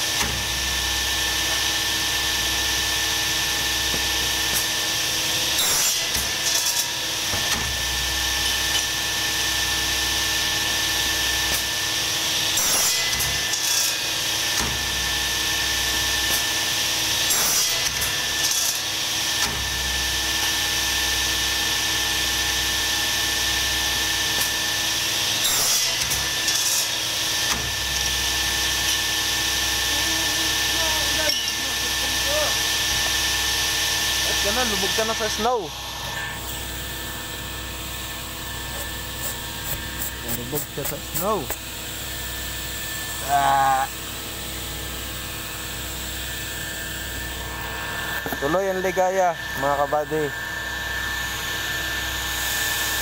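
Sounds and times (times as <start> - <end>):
workshop machine humming and whining: 0.0 - 53.0.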